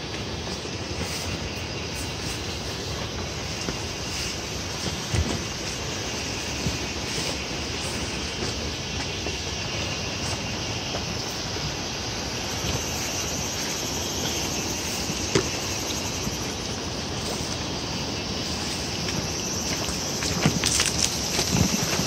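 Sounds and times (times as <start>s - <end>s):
insect chorus hissing: 0.0s - 22.0s.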